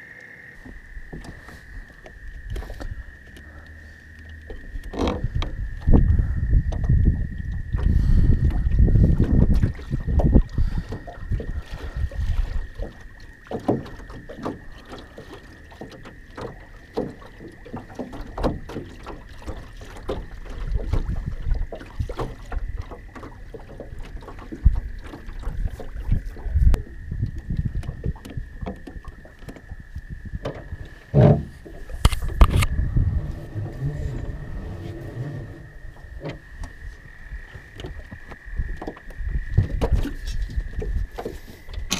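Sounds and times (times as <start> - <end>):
water slapping against metal hull: 4.2 - 41.9.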